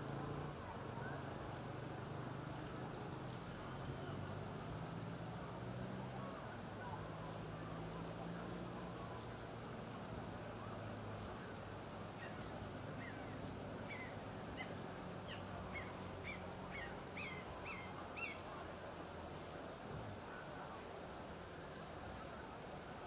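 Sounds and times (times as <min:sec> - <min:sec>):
steady low background noise: 0:00.0 - 0:23.0.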